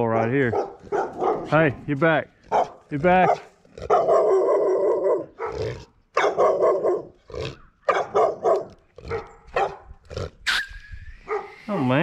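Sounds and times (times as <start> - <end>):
dogs barking: 0.0 - 10.0, 11.2 - 12.0.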